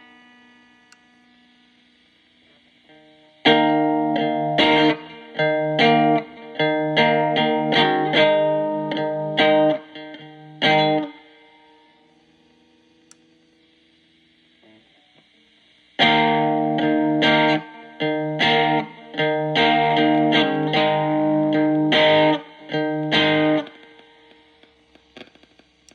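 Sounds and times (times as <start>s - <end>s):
distorted electric guitar: 0.0s - 25.9s.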